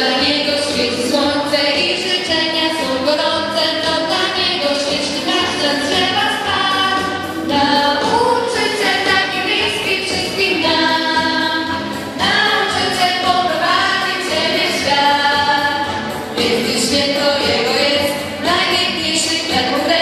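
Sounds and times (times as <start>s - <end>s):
group of voices singing: 0.0s - 20.0s.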